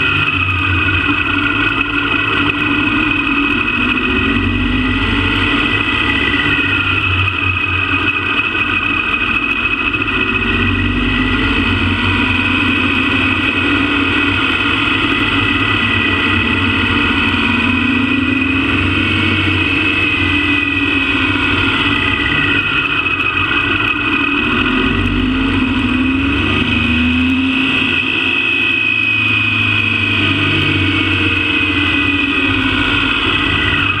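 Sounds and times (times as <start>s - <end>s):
motorcycle engine revving: 0.0s - 34.0s
steady high whine: 0.0s - 34.0s.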